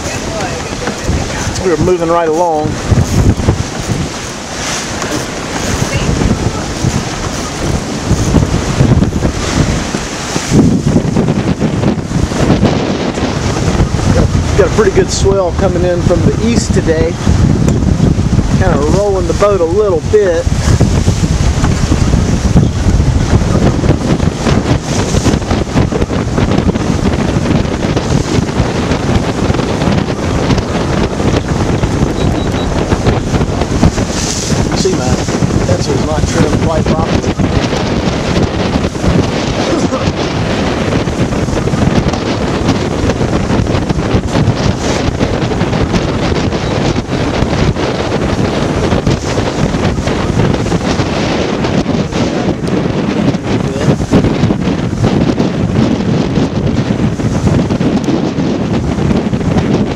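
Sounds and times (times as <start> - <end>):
water rushing past a hull: 0.0 - 59.9
wind buffeting microphone: 0.0 - 59.9.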